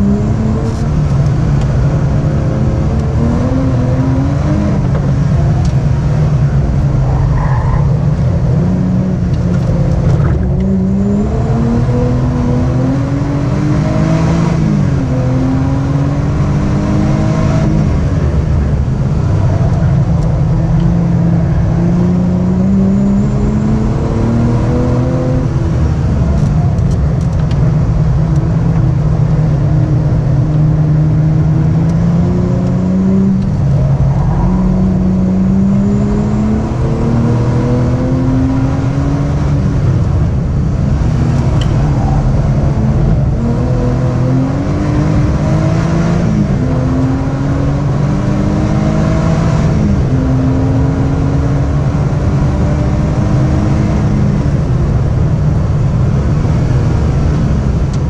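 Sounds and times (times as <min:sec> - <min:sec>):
car engine revving at full throttle: 0:00.0 - 0:58.0.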